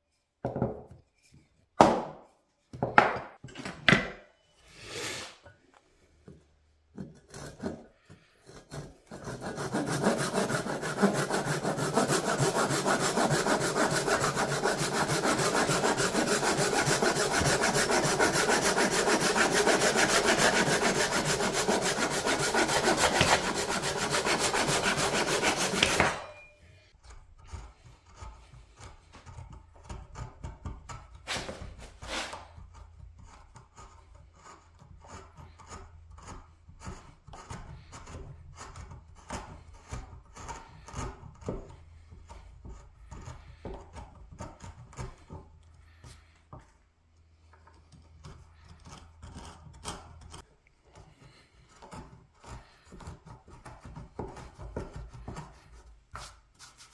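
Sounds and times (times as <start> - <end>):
chisel scraping wood: 6.9 - 26.3, 27.0 - 56.9
hand saw cutting wood: 7.0 - 26.3, 27.0 - 46.4, 47.9 - 56.9.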